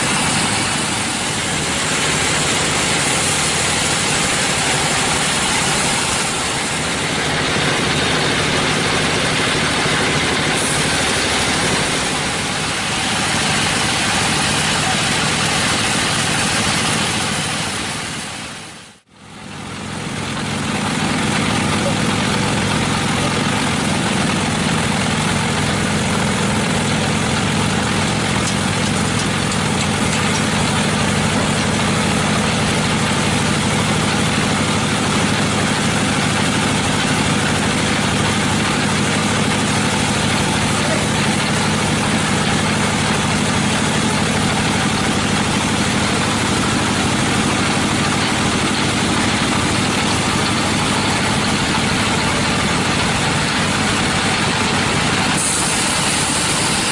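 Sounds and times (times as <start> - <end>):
sawmill machinery drone: 0.0 - 56.9.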